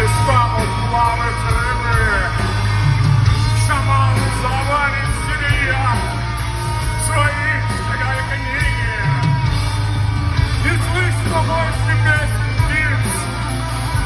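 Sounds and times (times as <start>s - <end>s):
heavy steady bass: 0.0s - 14.0s
live rock band playing: 0.0s - 14.0s.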